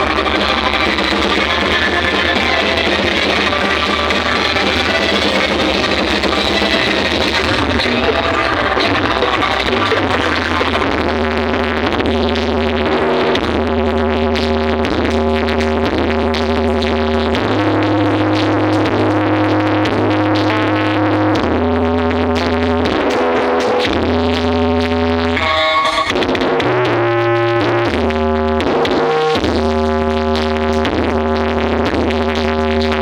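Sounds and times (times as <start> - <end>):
synthesizer music with heavy bass: 0.0 - 33.0.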